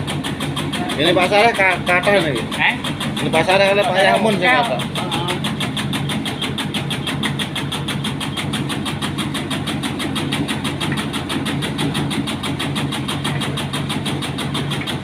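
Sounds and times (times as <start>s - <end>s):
cutting machine humming: 0.0s - 15.0s.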